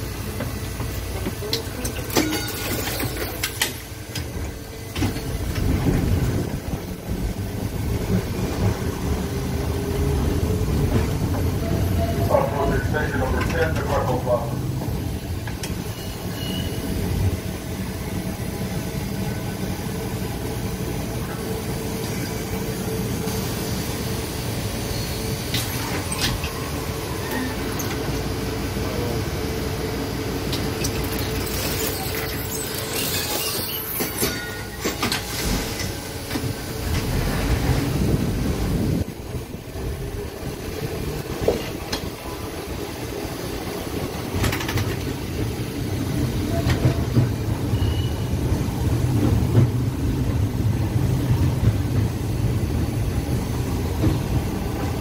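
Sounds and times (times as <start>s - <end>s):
streetcar wheels rumbling on rail: 0.0s - 55.0s.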